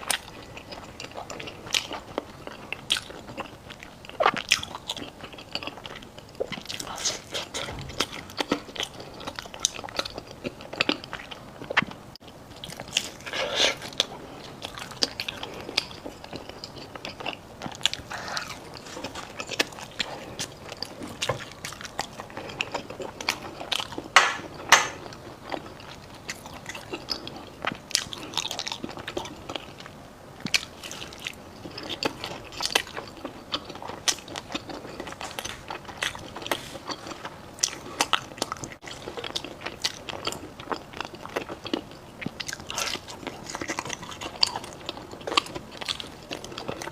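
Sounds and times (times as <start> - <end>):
crunchy food chewing: 0.0 - 46.9.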